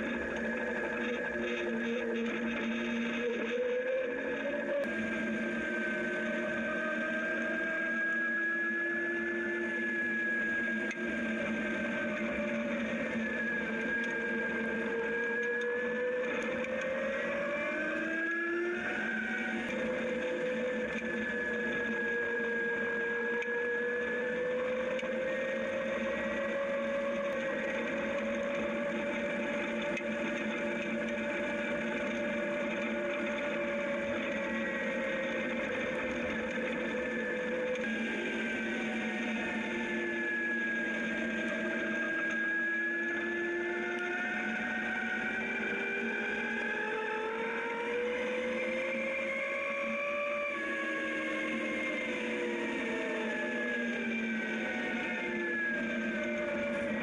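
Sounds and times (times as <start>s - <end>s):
electric motorcycle motor whining: 0.0s - 57.0s.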